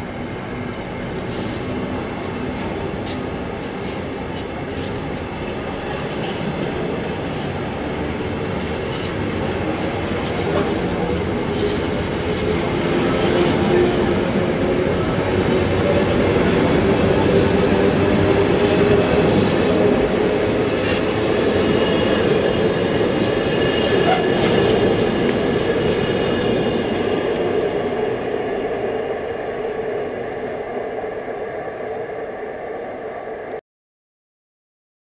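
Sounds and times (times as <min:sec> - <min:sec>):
freight train rolling past: 0:00.0 - 0:33.6.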